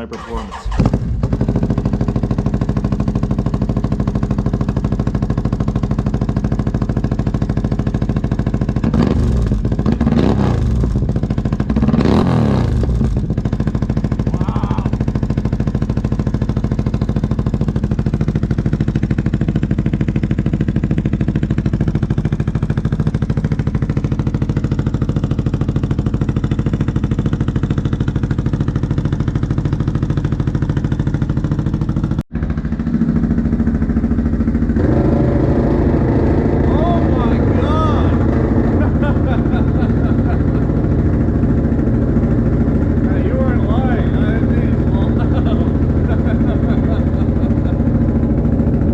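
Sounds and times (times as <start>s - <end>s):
atv engine idling and revving: 0.0s - 48.9s.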